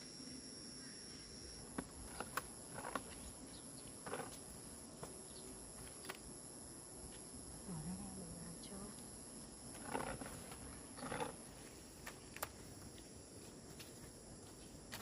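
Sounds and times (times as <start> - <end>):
insects calling: 0.0 - 15.0.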